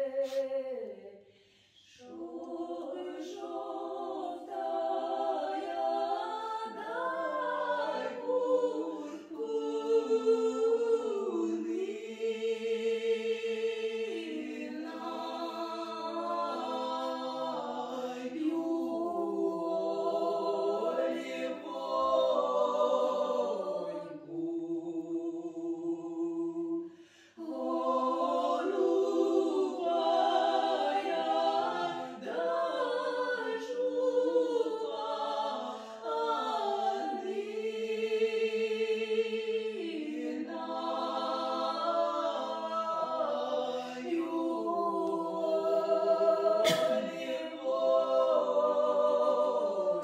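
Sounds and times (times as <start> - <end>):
choir singing slow chords: 0.0 - 50.0.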